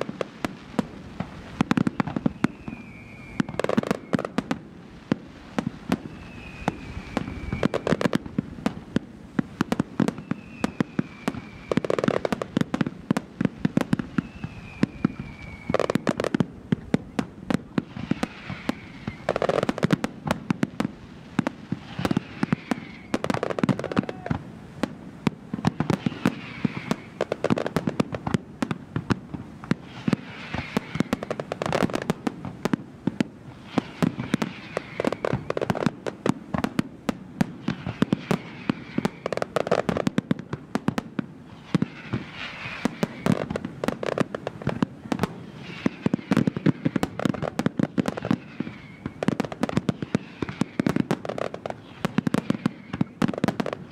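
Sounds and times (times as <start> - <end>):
fireworks bursting and crackling: 0.0 - 53.9.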